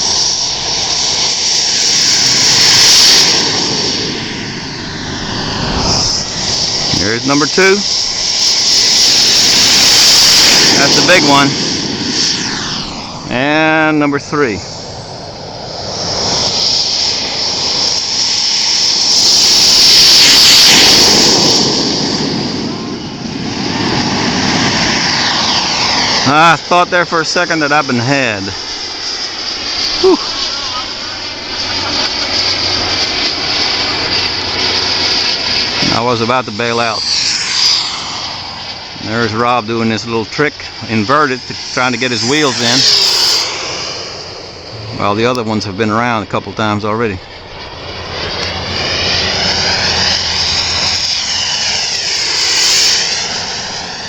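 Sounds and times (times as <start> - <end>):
jet turbine engine whine: 0.0 - 54.0.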